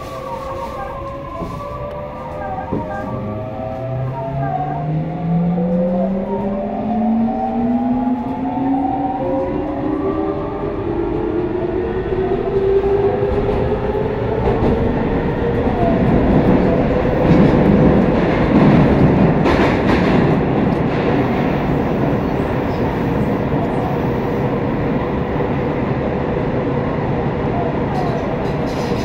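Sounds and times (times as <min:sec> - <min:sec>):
train inverter whining: 0:00.0 - 0:25.8.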